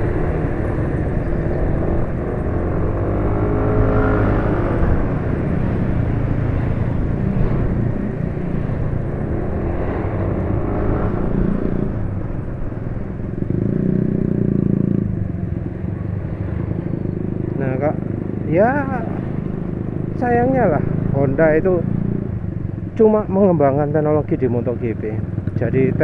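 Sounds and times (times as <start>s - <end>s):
motorcycle engine: 0.0s - 26.0s
road rumble: 0.0s - 26.0s.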